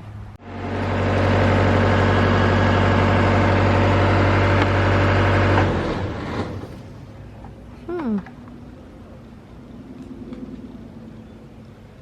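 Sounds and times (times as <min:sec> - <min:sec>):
engine humming and winding down: 0:00.3 - 0:12.0.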